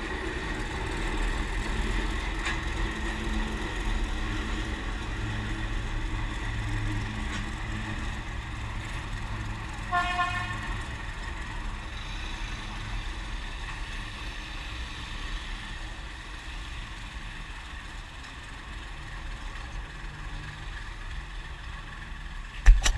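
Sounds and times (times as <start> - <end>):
diesel locomotive engine rumbling: 0.0 - 22.9.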